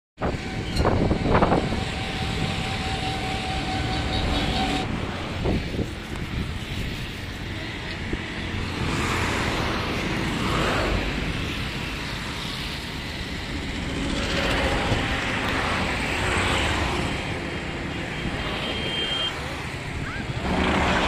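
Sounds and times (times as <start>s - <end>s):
road traffic passing: 0.2s - 21.0s.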